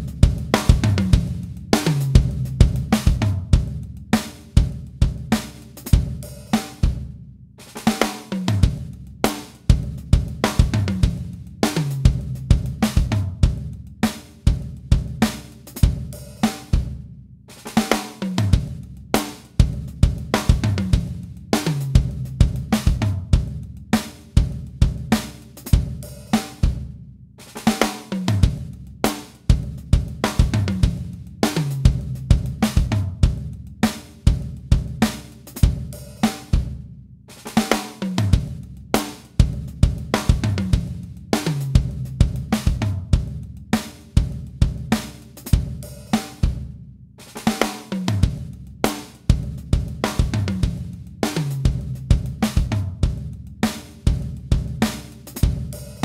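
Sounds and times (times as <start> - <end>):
drum kit groove: 0.0 - 56.0.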